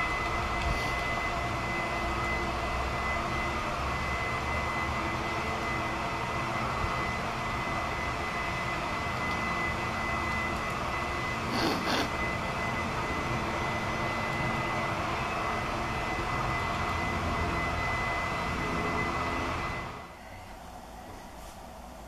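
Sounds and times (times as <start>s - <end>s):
continuous thin high tone: 0.0s - 22.0s.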